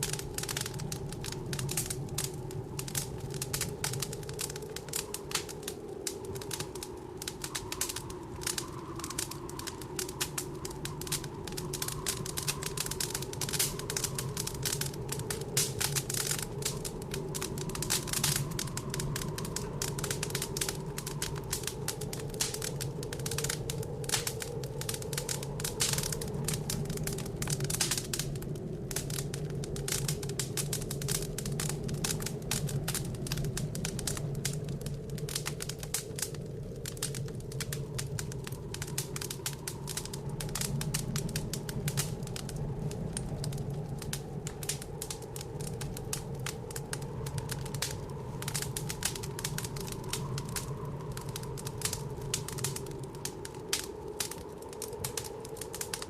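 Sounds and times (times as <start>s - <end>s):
blizzard wind: 0.0s - 56.0s
wood fire crackling: 0.0s - 56.0s.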